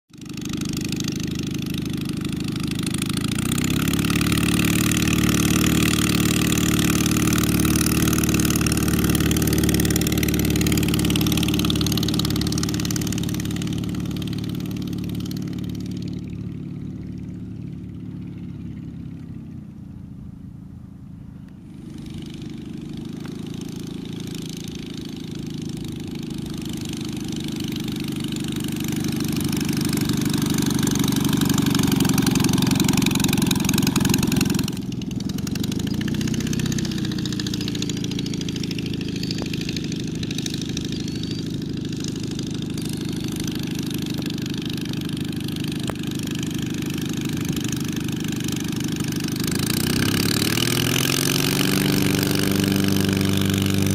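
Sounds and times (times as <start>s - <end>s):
light aircraft engine and propeller: 0.1s - 53.9s.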